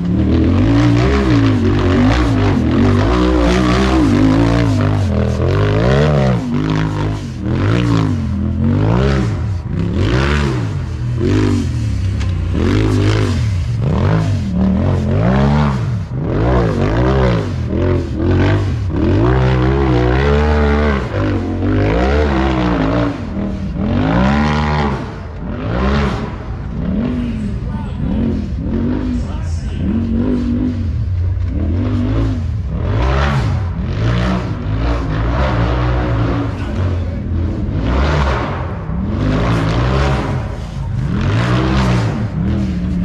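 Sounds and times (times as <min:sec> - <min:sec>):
race engine revving: 0:00.0 - 0:43.0.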